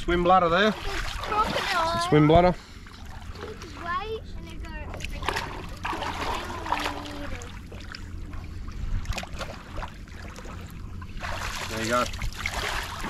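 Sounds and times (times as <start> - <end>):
seawater splashing and sloshing: 0.0 - 13.0.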